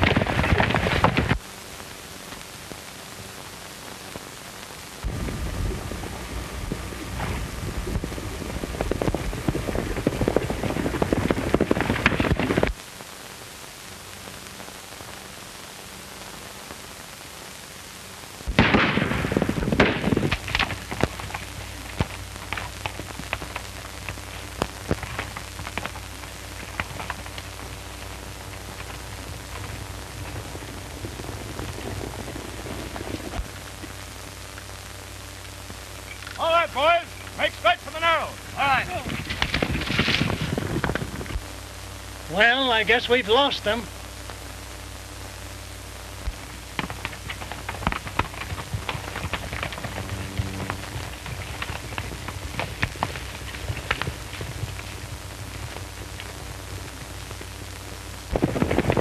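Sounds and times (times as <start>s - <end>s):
horses galloping on dirt: 0.0s - 3.3s, 5.0s - 12.8s, 18.5s - 41.6s, 44.9s - 59.0s
film soundtrack hiss and hum: 0.0s - 59.0s.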